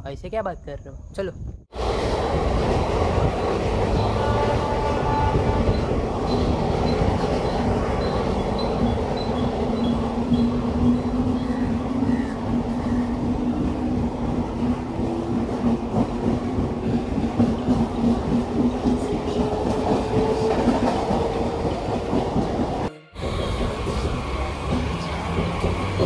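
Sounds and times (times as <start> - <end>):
electric train running: 1.8 - 26.0
wheels clacking over rail joints: 1.8 - 26.0.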